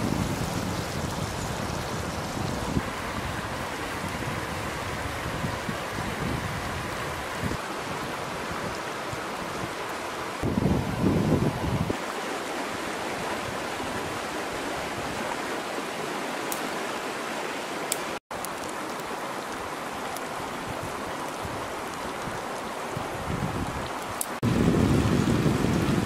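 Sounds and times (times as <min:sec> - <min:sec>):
river flowing: 0:00.0 - 0:26.0.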